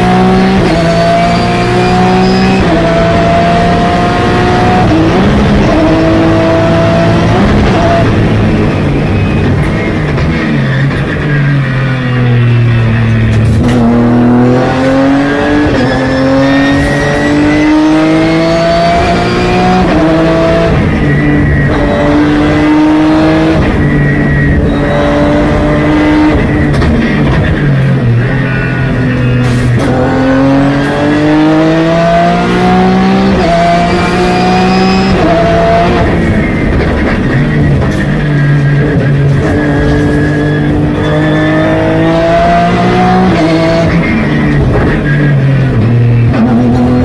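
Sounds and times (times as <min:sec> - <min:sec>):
racing engine revving with upshifts: 0:00.0 - 0:47.0.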